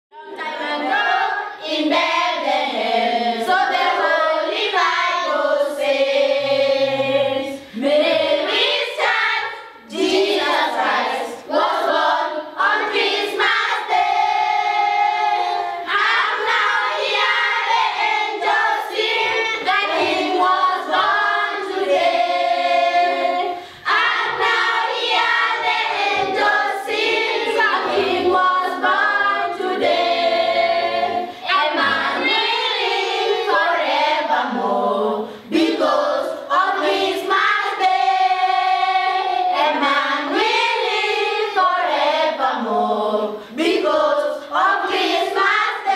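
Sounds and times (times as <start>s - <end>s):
choir singing: 0.2s - 45.9s.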